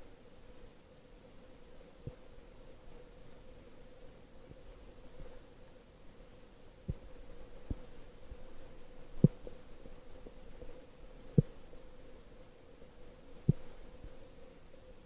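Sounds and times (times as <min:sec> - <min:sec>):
faint underwater hum: 0:00.0 - 0:15.0.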